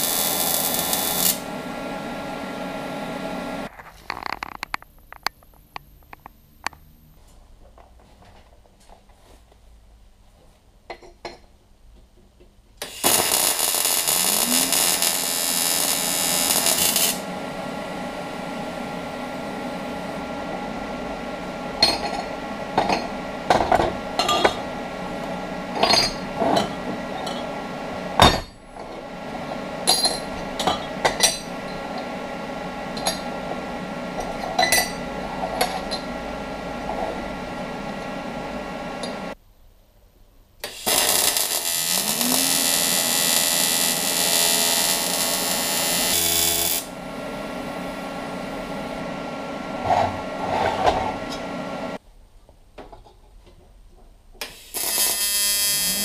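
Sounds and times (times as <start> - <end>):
welding arc buzz: 0.0 - 6.8, 12.8 - 39.4, 40.6 - 52.0, 54.4 - 56.0
steady hum: 0.0 - 7.3, 13.0 - 39.4, 40.8 - 52.0.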